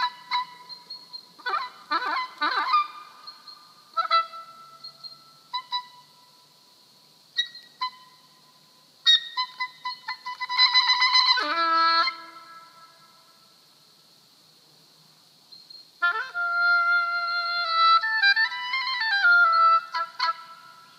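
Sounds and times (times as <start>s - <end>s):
oboe improvising: 0.0s - 6.6s, 7.3s - 13.4s, 16.0s - 20.9s.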